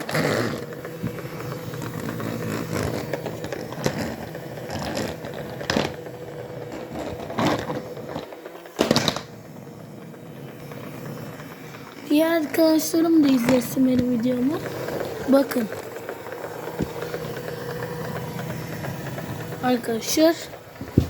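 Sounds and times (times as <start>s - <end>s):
robot vacuum motor whine: 0.0s - 21.0s.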